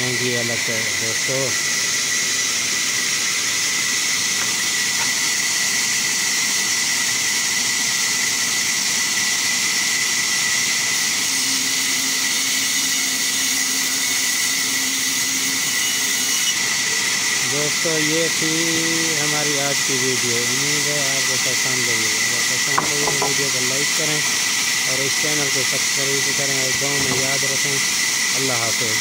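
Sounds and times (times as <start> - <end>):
band saw whining: 0.0 - 29.0.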